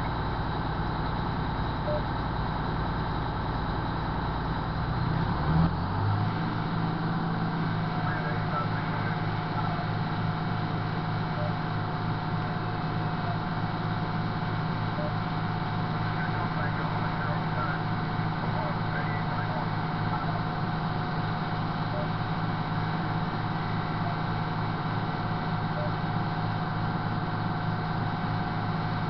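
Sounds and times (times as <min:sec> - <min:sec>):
fire truck engine idling: 0:00.0 - 0:05.1, 0:06.3 - 0:29.0.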